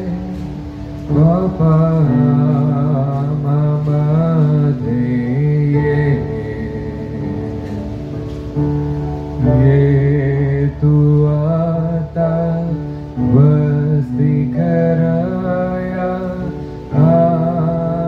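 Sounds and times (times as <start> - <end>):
man singing into a microphone: 0.0 - 8.4, 9.4 - 18.0
sustained backing chords: 0.0 - 18.0.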